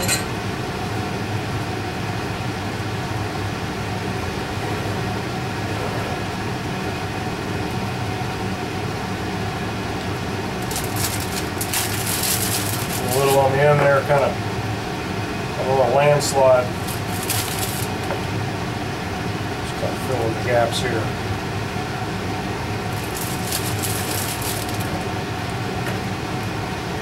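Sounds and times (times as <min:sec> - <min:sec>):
appliance fan hum: 0:00.0 - 0:27.0.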